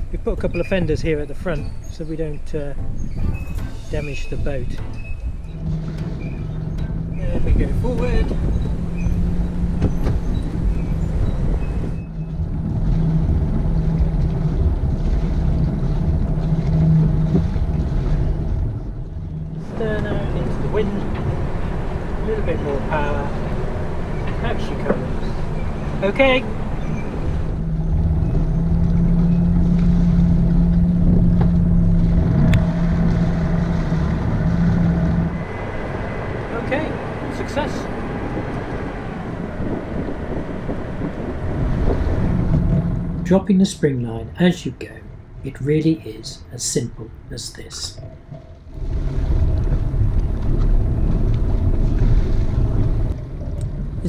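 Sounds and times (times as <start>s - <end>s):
wind buffeting microphone: 0.0s - 46.1s, 47.9s - 54.0s
boat diesel engine running: 0.0s - 54.0s.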